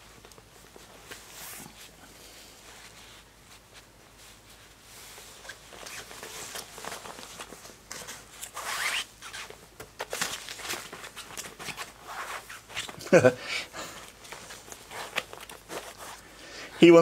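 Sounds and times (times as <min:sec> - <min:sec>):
puppy rustling and scuffling: 0:00.0 - 0:13.2, 0:13.8 - 0:16.2.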